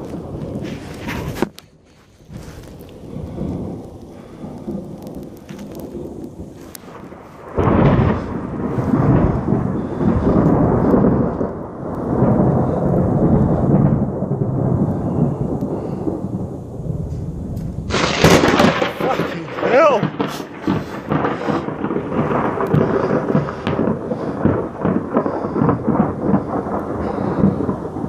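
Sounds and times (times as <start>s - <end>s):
thunder rumbling and clapping: 2.4s - 28.0s.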